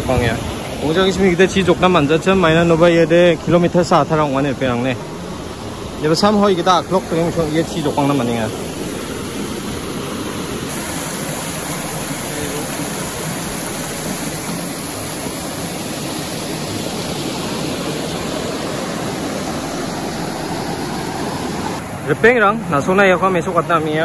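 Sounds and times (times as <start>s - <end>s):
small waterfall rushing: 0.0s - 24.0s.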